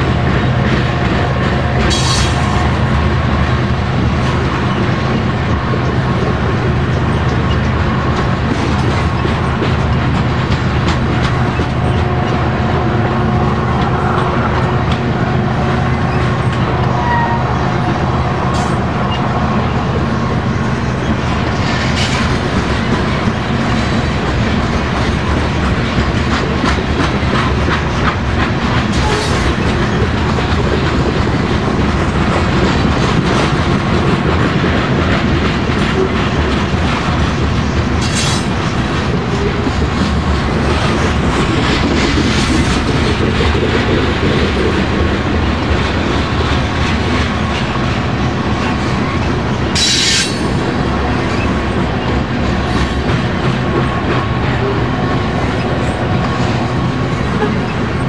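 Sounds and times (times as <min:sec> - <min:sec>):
train wheels clicking over rail joints: 0:00.0 - 0:17.1, 0:17.7 - 0:58.0.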